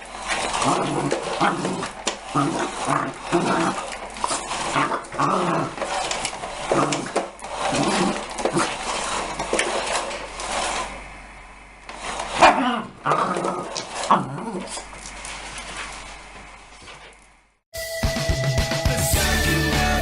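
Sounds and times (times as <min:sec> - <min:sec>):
puppy play-growling: 0:00.0 - 0:11.0, 0:11.9 - 0:17.1.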